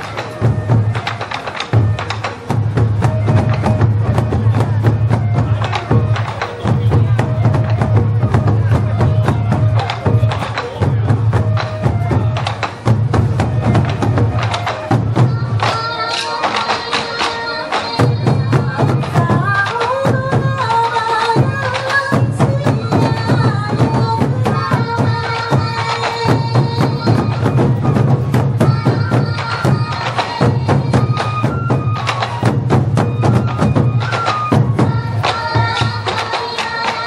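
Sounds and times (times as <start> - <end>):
procession music melody: 0.0 - 37.0.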